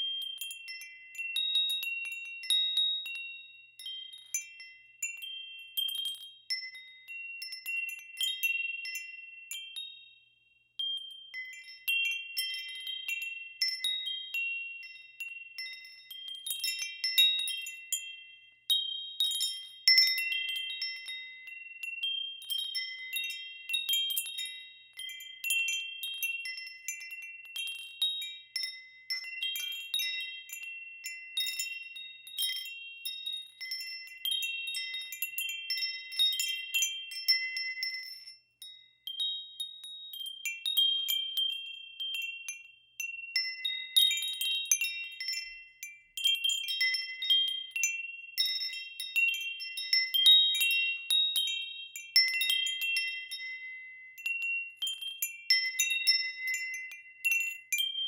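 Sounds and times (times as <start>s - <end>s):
wind chimes ringing: 0.0s - 10.2s, 10.8s - 58.0s.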